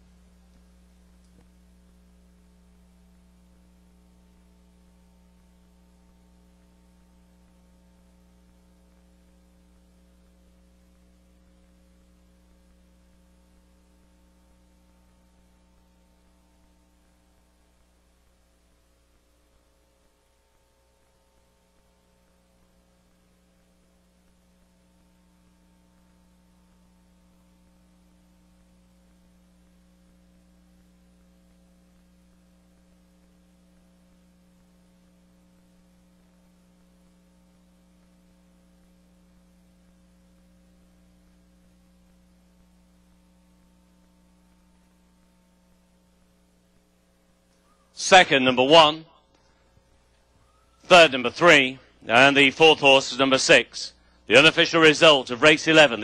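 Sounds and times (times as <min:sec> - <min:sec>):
faint electrical hum: 0:00.0 - 0:56.0.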